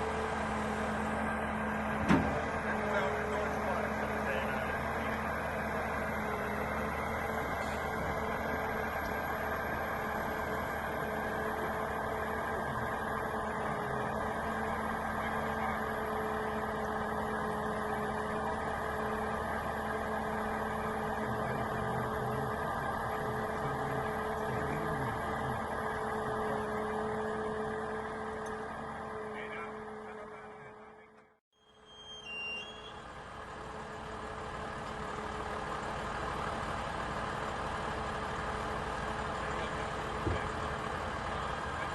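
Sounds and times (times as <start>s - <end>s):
engine running steadily: 0.0s - 31.4s, 32.3s - 41.9s.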